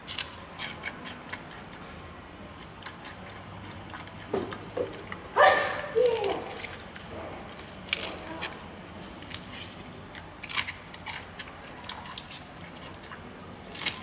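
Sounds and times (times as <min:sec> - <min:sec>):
panda chewing bamboo: 0:00.0 - 0:14.0.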